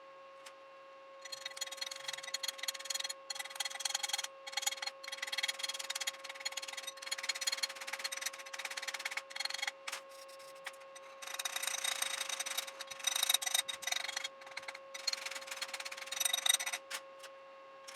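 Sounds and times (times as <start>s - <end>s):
steady hum: 1.1s - 17.9s
welding arc crackling and sizzling: 1.3s - 16.9s.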